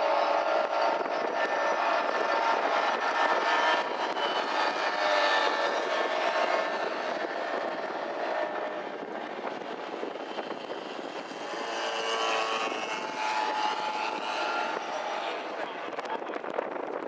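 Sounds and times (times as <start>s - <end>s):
propeller aircraft engine droning: 0.0s - 17.0s.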